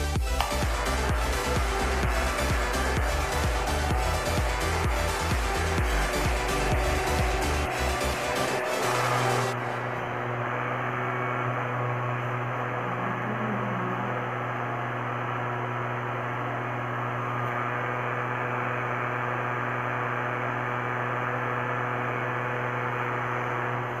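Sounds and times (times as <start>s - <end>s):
small fan humming: 0.1s - 24.0s.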